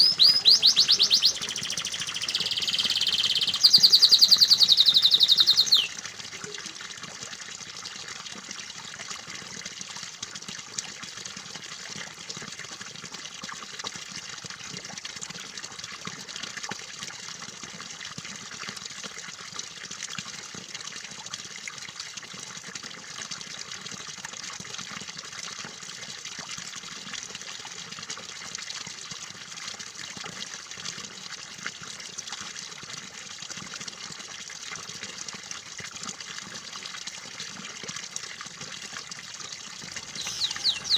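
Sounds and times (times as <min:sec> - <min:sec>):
water trickling with splashes: 0:00.0 - 0:40.9.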